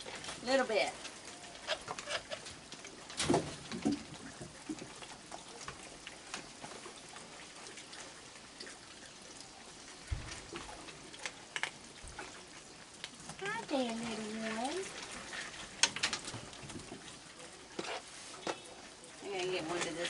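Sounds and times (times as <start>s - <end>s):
raccoons eating: 0.0s - 20.0s.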